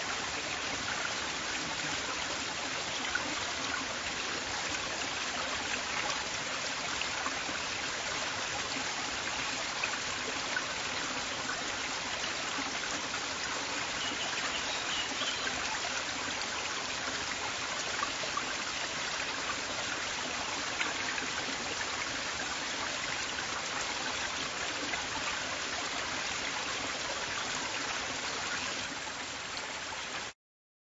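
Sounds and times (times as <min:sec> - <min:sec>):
river water flowing: 0:00.0 - 0:30.3.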